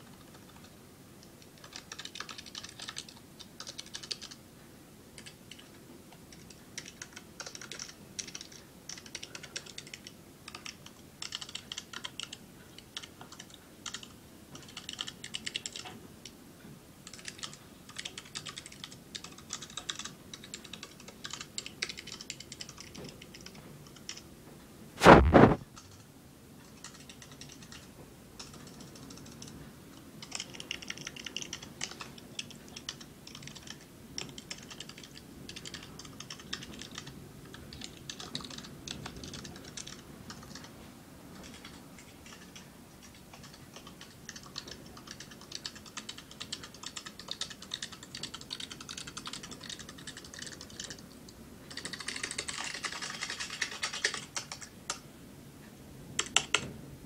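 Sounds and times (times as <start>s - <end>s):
typing on computer keyboard: 0.0s - 4.4s, 5.2s - 16.0s, 17.0s - 24.3s, 25.0s - 29.6s, 30.2s - 40.7s, 41.4s - 55.0s, 56.2s - 56.6s.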